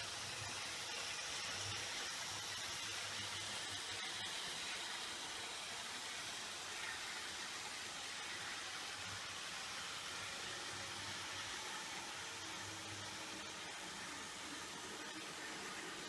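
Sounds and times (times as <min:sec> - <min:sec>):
model steam locomotive hissing: 0:00.0 - 0:16.0.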